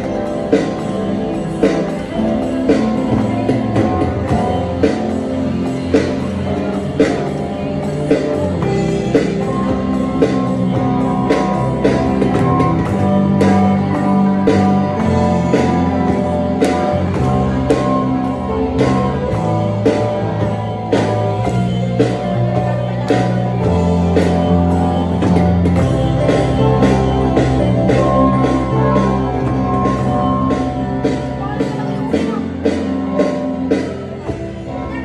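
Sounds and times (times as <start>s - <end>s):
electric guitar: 0.0s - 35.0s
electronic drum beat: 0.0s - 35.0s.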